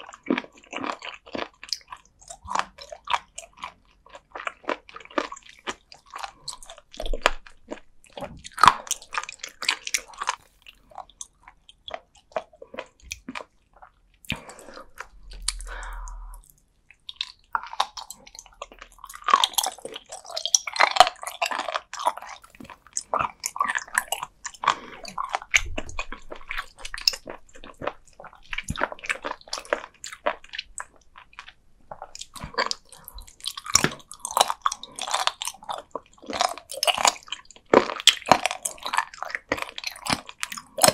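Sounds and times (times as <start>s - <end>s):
wet crunchy chewing: 0.0s - 40.9s.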